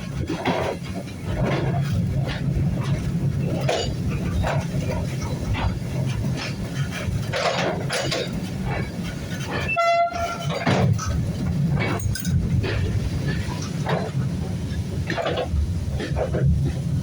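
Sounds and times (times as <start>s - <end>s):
train wagon rumbling on rails: 0.0s - 17.0s
wagon knocks and rattles: 0.0s - 17.0s.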